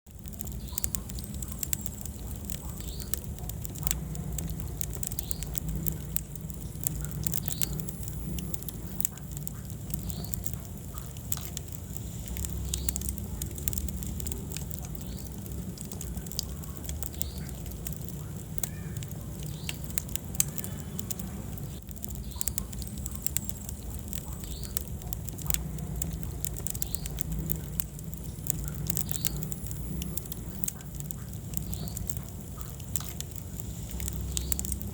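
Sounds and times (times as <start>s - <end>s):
low rumble of flames: 0.0s - 34.9s
wood fire crackling and popping: 0.0s - 34.9s.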